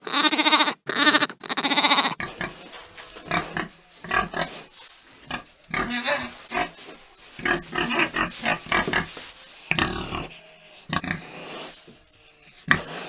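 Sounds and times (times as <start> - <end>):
lamb bleating: 0.0 - 13.0
pig grunting: 0.0 - 13.0.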